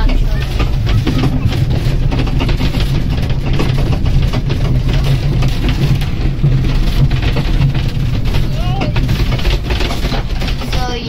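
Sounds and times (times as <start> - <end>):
train rumble and rattling: 0.0 - 11.0.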